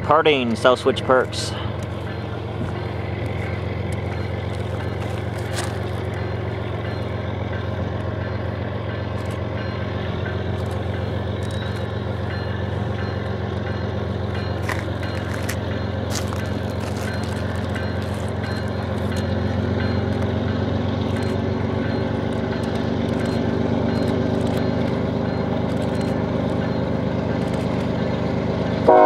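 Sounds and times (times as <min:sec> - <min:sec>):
locomotive diesel engine humming: 0:00.0 - 0:29.0.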